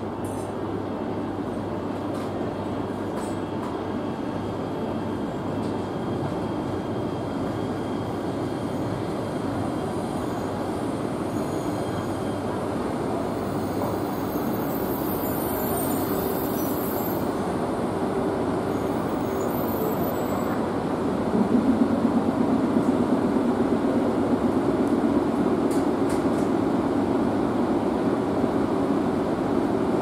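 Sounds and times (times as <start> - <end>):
train motors and wheels rumbling: 0.0 - 30.0.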